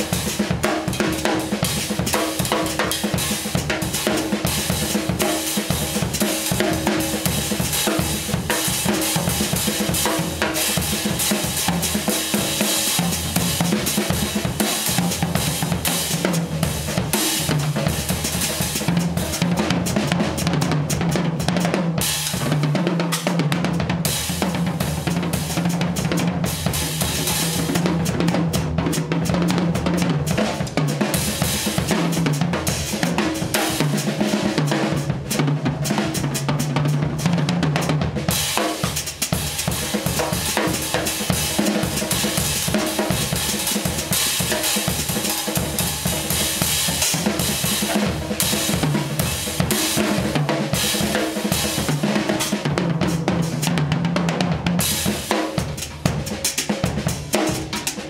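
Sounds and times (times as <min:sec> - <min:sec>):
fast drum solo: 0:00.0 - 0:58.0.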